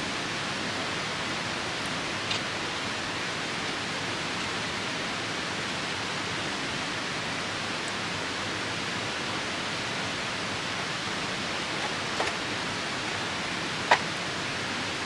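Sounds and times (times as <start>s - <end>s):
campfire crackle: 0.0s - 15.0s
rain: 0.0s - 15.0s
river rushing: 0.0s - 15.0s.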